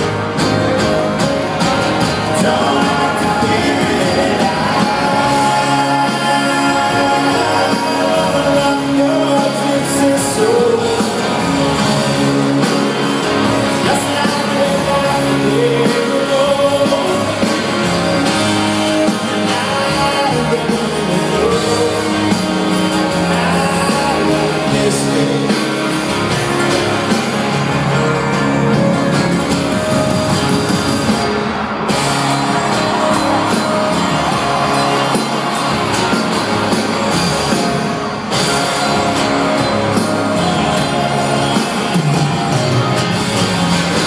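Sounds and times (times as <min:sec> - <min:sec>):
live country band playing: 0:00.0 - 0:44.0.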